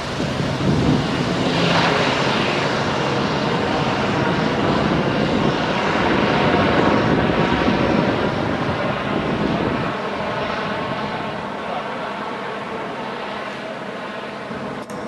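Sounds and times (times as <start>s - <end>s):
helicopter flying past: 0.0s - 15.0s.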